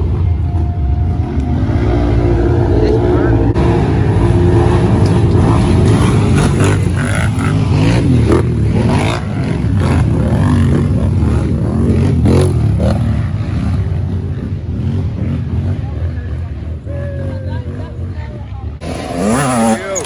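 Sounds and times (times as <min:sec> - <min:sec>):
quad engines revving: 0:00.0 - 0:20.0.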